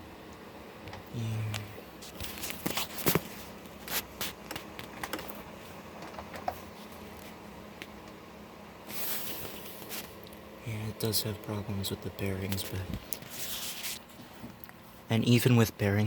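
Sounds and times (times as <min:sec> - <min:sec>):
air conditioner fan humming: 0:00.0 - 0:16.0.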